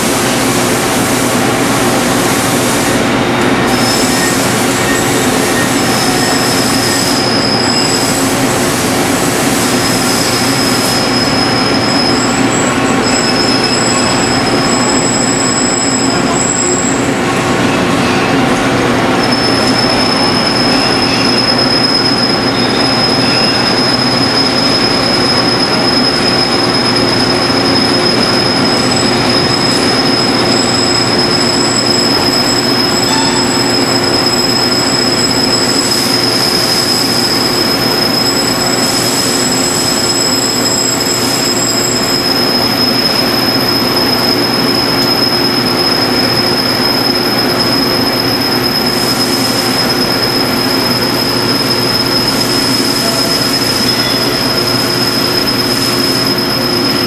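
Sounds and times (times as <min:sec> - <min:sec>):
metal lathe whining: 0:00.0 - 0:57.0
thin high squeal: 0:03.7 - 0:08.4, 0:09.4 - 0:17.1, 0:19.2 - 0:57.0.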